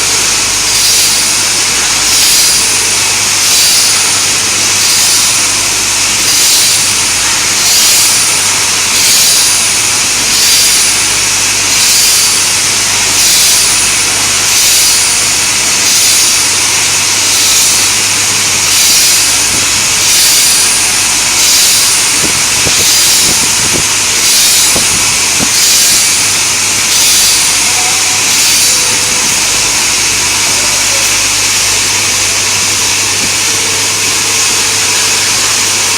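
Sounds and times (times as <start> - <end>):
grinding wheel hiss: 0.0 - 35.9
motor hum: 0.0 - 35.9.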